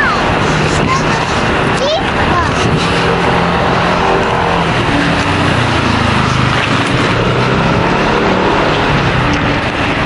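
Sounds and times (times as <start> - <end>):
street traffic rush: 0.0 - 10.0
vehicle engines humming: 0.0 - 10.0.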